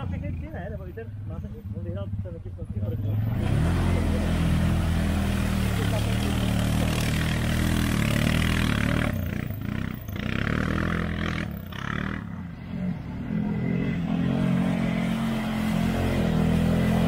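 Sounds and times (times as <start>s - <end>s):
atv engine revving: 1.7s - 17.0s.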